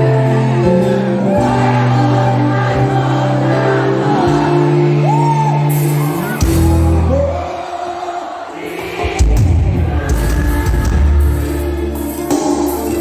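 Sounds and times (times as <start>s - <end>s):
keyboard and bass notes: 0.0s - 7.5s, 9.8s - 13.0s
loud band music: 0.0s - 7.9s, 8.6s - 13.0s.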